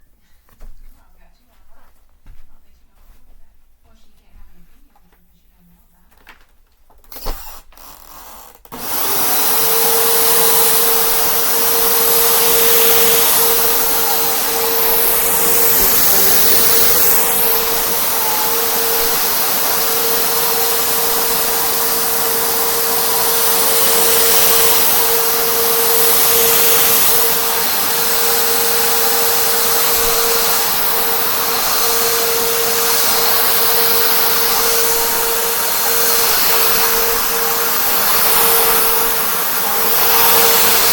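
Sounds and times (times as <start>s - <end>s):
vacuum cleaner motor whining: 7.0s - 40.9s.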